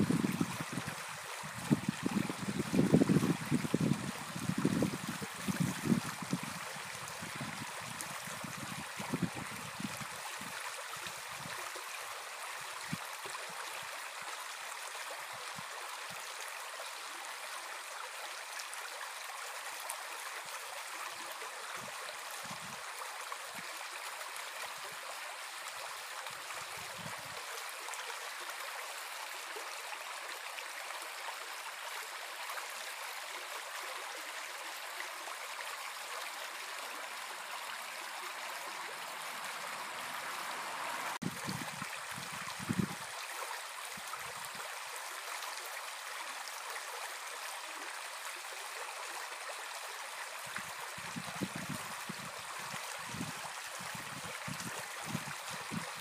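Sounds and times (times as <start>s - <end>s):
brook babbling over stones: 0.0s - 56.0s.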